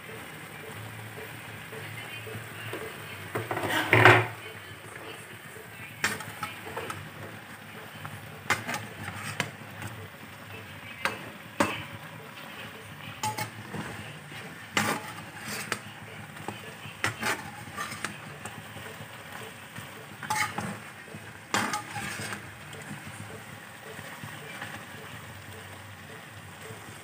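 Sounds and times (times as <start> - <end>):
utensil scraping frying pan: 1.1 - 27.0.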